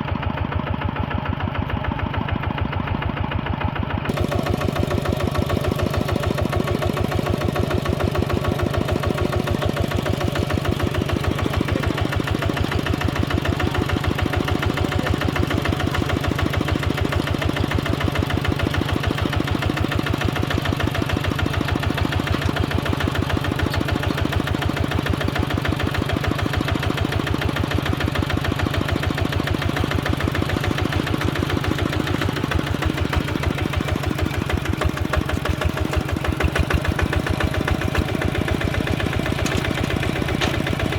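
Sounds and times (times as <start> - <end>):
heavy machine engine running: 3.8 - 40.9.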